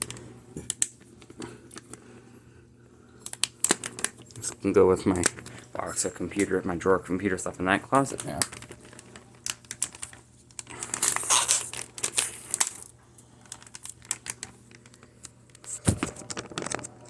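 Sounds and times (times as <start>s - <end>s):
plastic bag crinkling: 0.0s - 2.2s, 3.2s - 17.0s.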